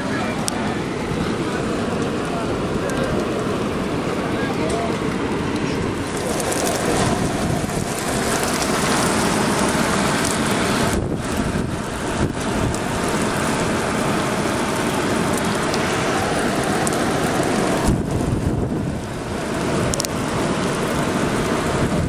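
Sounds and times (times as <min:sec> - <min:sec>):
rush of falling water: 0:00.0 - 0:22.0.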